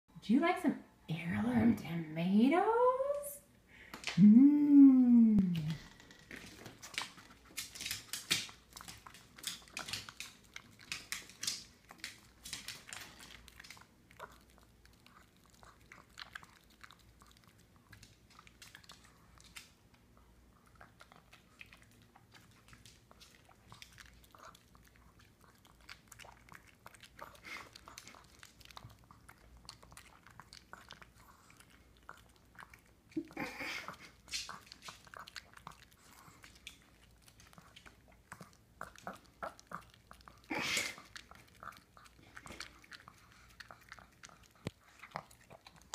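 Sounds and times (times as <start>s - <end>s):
dog chewing and crunching: 5.8s - 45.9s.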